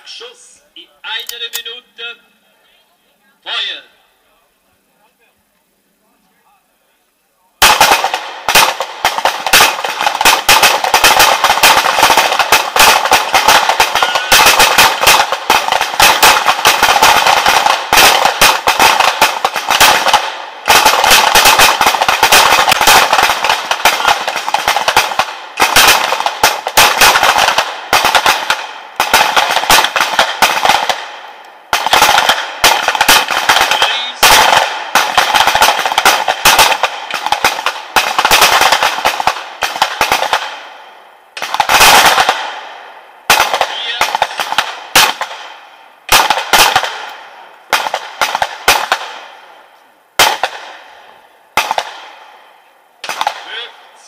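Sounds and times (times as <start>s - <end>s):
pistol shots: 7.6s - 49.6s, 50.2s - 52.4s, 53.0s - 53.9s.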